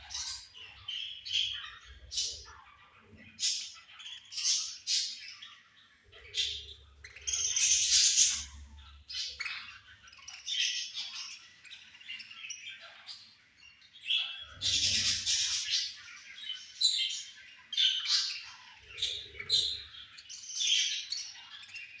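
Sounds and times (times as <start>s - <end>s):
budgerigars chirping and squawking: 0.0s - 22.0s.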